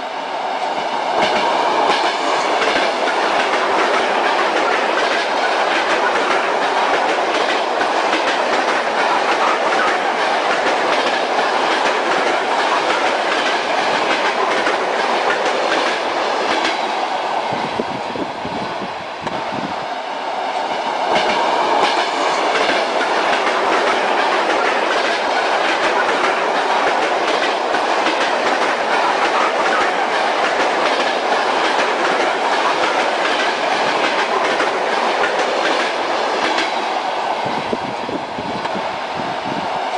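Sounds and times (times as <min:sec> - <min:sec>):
train wheels clattering on rails: 0:00.7 - 0:17.9, 0:20.4 - 0:37.9.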